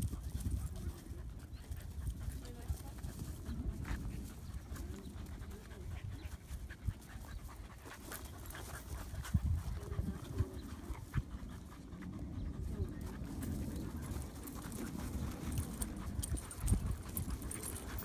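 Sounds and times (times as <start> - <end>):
dogs panting: 0.0 - 18.0
dogs scuffling on wood chips: 0.1 - 18.0.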